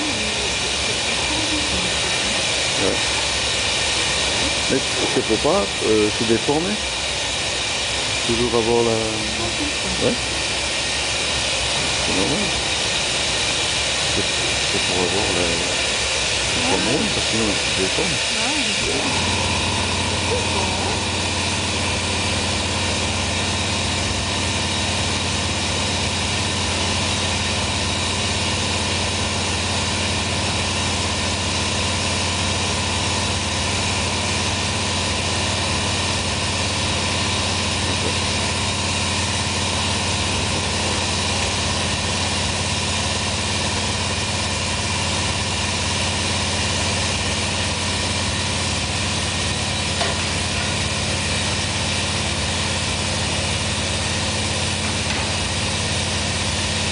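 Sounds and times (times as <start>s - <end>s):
furnace and blower roaring: 0.0s - 56.9s
low hum: 0.0s - 56.9s.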